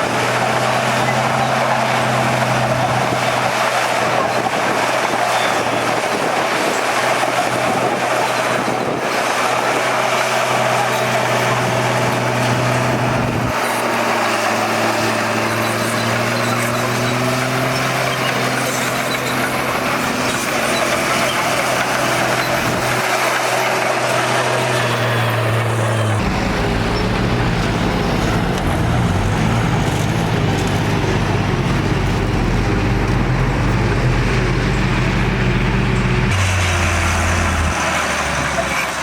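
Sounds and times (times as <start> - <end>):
heavy diesel engines running: 0.0 - 39.0.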